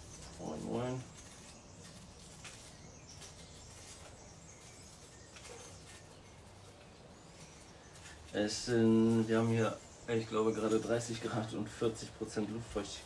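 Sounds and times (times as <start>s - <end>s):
soft ticks and rustles: 0.0s - 13.0s.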